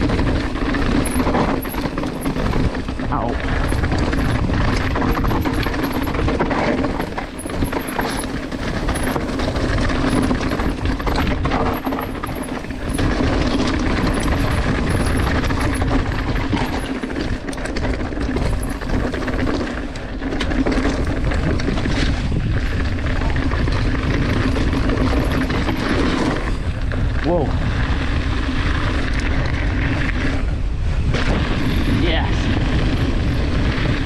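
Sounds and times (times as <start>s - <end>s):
wind rush: 0.0s - 19.6s, 21.0s - 34.0s
bike knocks and rattles: 0.0s - 34.0s
tyres on dirt trail: 0.0s - 34.0s.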